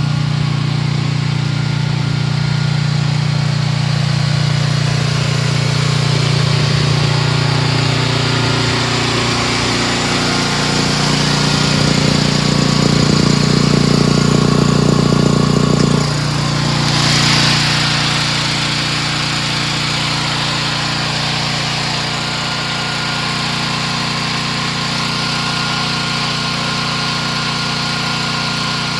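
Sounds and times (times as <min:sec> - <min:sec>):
small petrol engine idling: 0:00.0 - 0:28.9.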